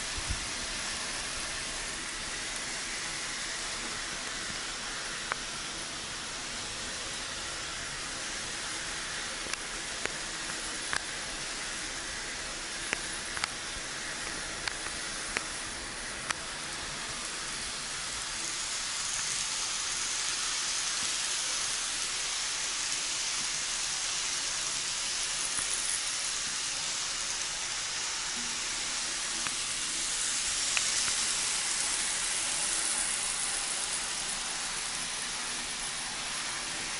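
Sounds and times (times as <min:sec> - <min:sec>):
model train whirring: 0:00.0 - 0:36.9.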